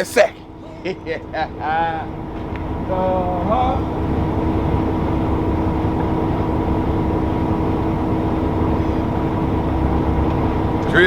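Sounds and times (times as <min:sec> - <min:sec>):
constant hum: 0:00.0 - 0:11.0
heavy vehicle engine rumbling: 0:00.0 - 0:11.0.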